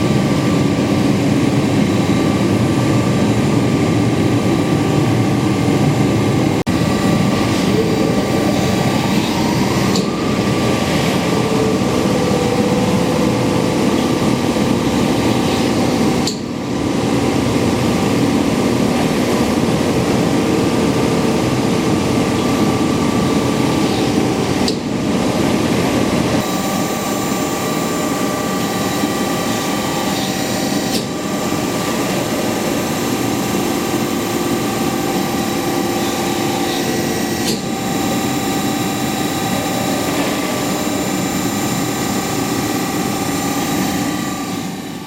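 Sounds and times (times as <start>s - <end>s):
machine whine: 0.0s - 45.0s
press brake machine drone: 6.2s - 45.0s.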